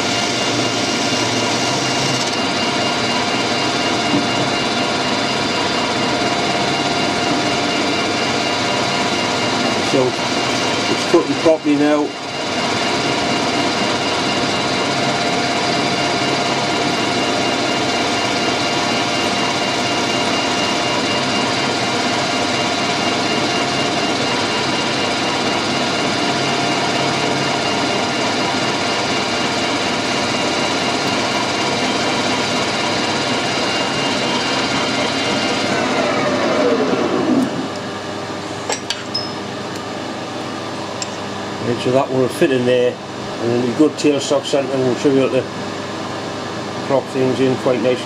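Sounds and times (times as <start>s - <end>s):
metal lathe running: 0.0s - 48.0s.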